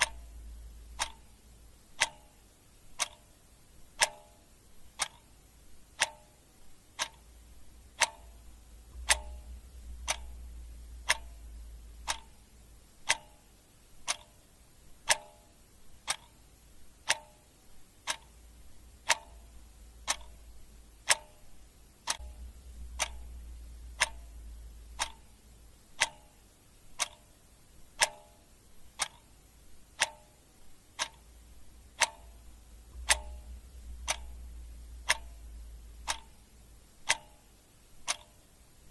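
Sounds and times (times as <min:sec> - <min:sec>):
clock ticking: 0:00.0 - 0:38.9
faint low rumble: 0:00.0 - 0:38.9.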